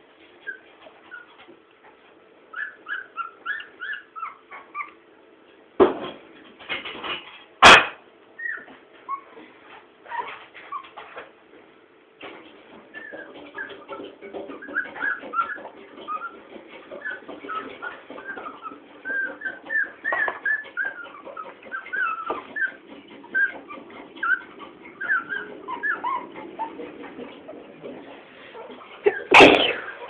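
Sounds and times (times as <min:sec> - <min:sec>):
puppies squeaking and whimpering: 0:00.2 - 0:05.2, 0:08.4 - 0:11.2, 0:12.8 - 0:30.0.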